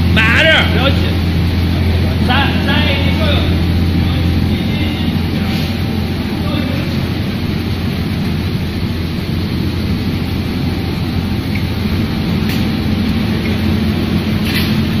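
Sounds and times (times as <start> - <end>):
machinery hum and rumble: 0.0 - 15.0.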